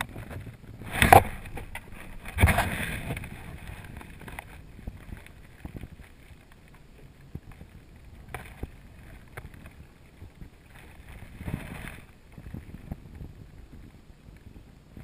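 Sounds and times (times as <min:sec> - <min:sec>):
wind buffeting microphone: 0:00.0 - 0:06.2, 0:07.3 - 0:15.0
fishing boat engine rumble: 0:00.0 - 0:15.0.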